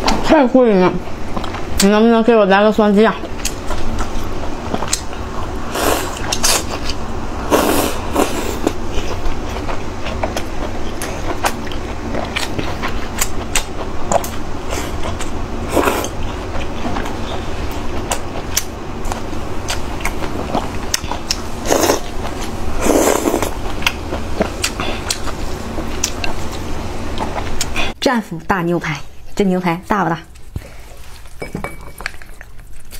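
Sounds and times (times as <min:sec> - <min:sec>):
close chewing and mouth sounds: 0:00.9 - 0:28.0, 0:30.3 - 0:32.9.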